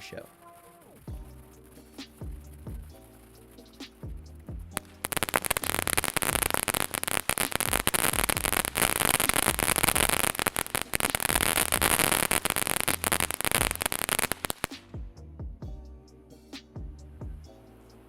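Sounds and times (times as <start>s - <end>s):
firework fountain crackling and hissing: 0.0s - 14.9s.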